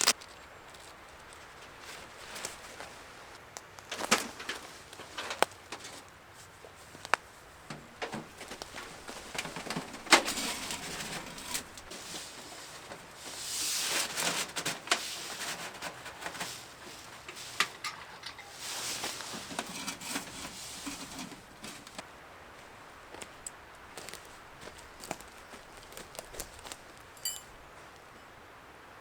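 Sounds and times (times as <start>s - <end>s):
rustling and crunching: 0.0s - 27.6s.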